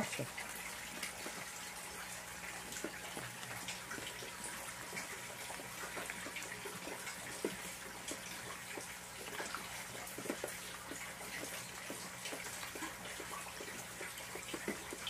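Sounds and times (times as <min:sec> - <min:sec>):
rain drips and splashes: 0:00.0 - 0:15.0
water splashing in pond: 0:00.0 - 0:15.0.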